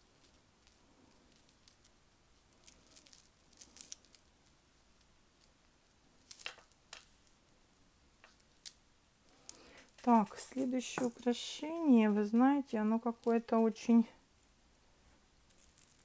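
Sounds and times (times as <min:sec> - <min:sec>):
jewelry clicking and rustling: 0:00.0 - 0:16.0.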